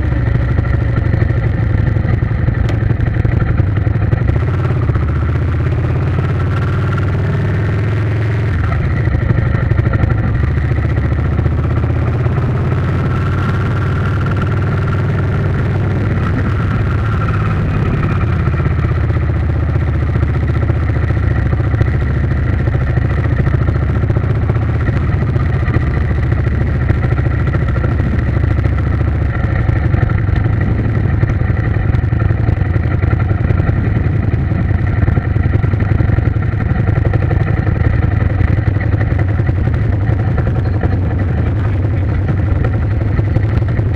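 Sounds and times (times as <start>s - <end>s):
vehicle engine running steadily: 0.0s - 43.9s.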